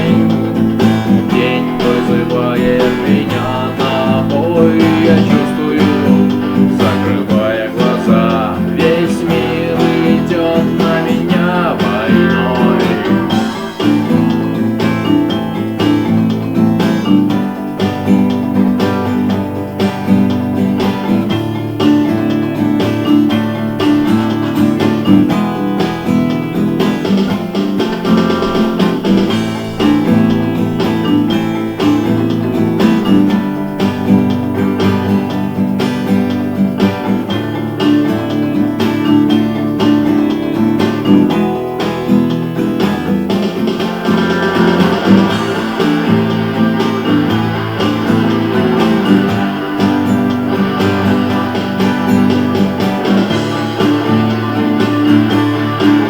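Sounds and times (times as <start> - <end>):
rock guitars strumming: 0.0 - 56.0.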